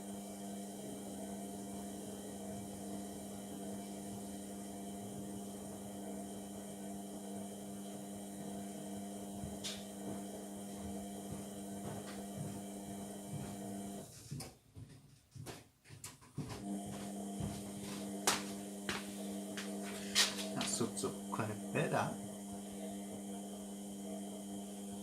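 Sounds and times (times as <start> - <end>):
washing machine motor humming: 0.0 - 14.1, 16.4 - 25.0.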